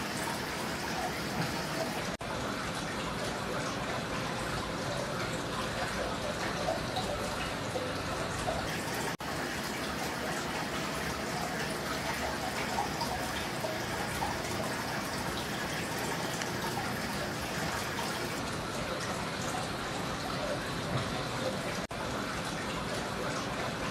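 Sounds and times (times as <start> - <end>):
water splashing and trickling: 0.0 - 23.9.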